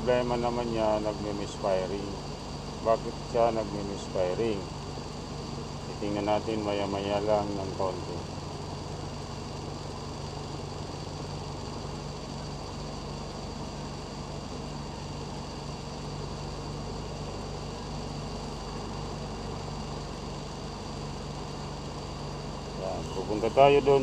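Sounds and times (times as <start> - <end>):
misfiring car engine idling: 0.0 - 24.0.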